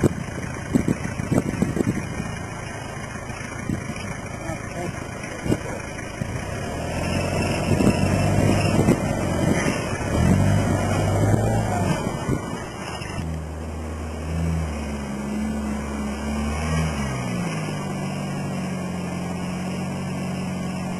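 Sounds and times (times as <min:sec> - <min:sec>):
engine working under load: 0:00.0 - 0:20.9.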